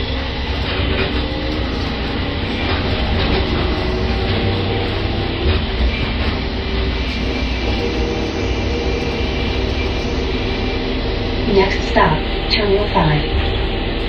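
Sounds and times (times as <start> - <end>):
faint steady tones: 0.0 - 14.0
train rumbling: 0.0 - 14.0.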